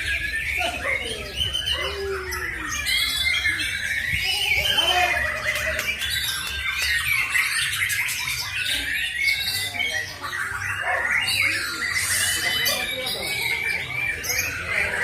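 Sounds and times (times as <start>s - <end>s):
many birds singing: 0.0s - 15.0s.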